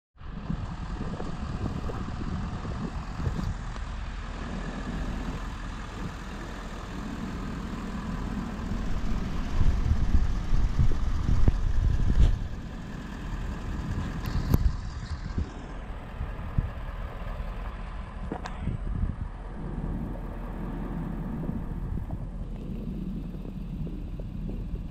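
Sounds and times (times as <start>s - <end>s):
low vehicle drone: 0.2s - 24.9s
wind buffeting microphone: 0.2s - 24.9s.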